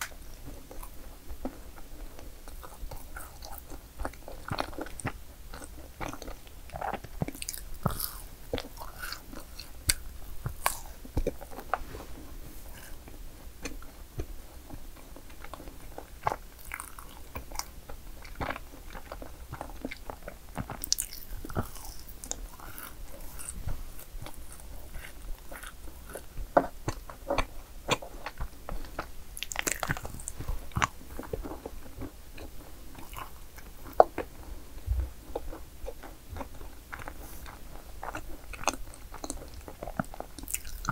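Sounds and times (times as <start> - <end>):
person biting and chewing: 2.6 - 11.8, 15.3 - 34.3, 35.3 - 40.9.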